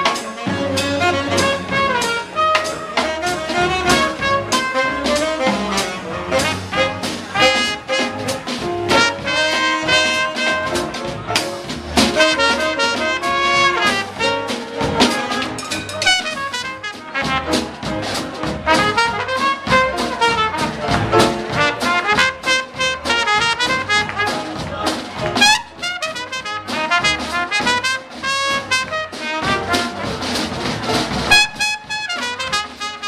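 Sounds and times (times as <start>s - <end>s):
jazz rhythm section: 0.0s - 33.0s
trumpet playing quick lines: 0.0s - 33.0s
upright bass: 0.0s - 33.0s.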